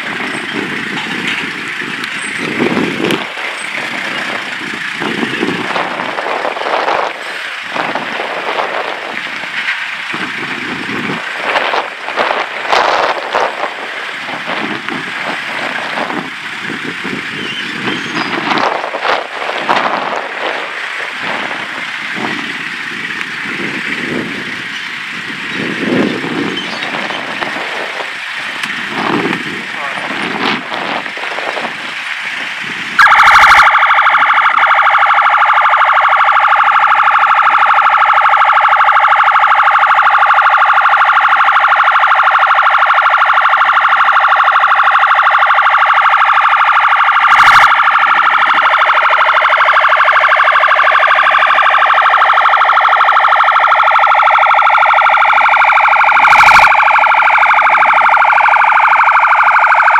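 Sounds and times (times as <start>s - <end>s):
police siren: 0.0s - 59.9s.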